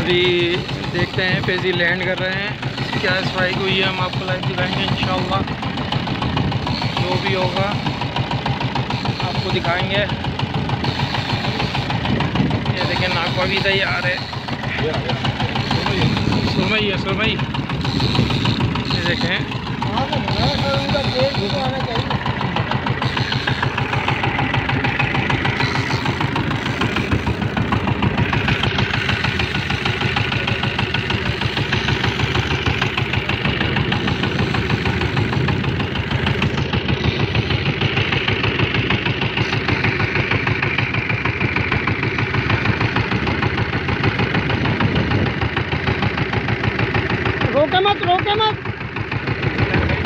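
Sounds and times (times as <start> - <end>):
boat diesel engine chugging: 0.0 - 50.0.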